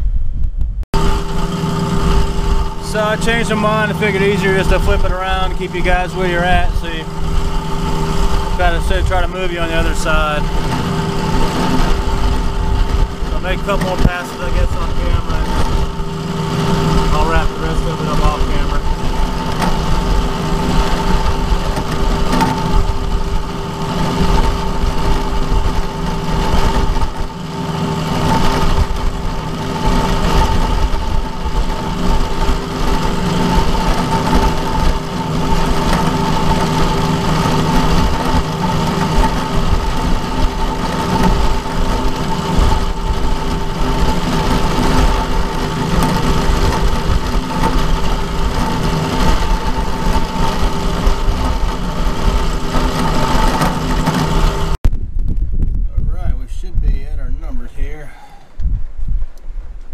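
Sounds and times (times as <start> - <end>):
milling machine cutting metal: 1.0 - 54.8.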